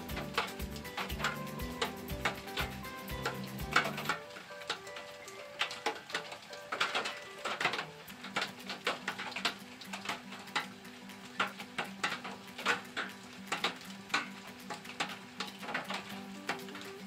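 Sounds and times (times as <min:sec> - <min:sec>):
rain pattering on a roof: 0:00.0 - 0:17.0.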